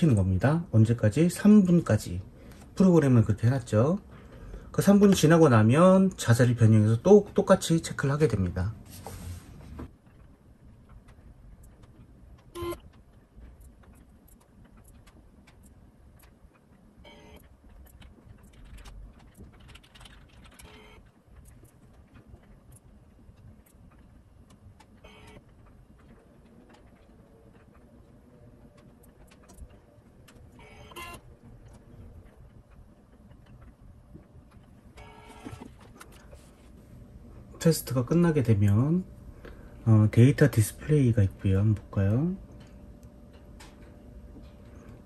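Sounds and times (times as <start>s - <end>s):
faint low hum: 0.0s - 45.0s.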